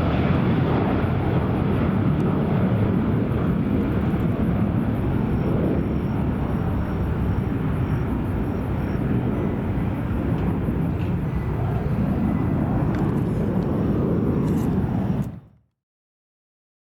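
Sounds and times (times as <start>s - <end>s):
jet engines rumbling: 0.0s - 15.6s.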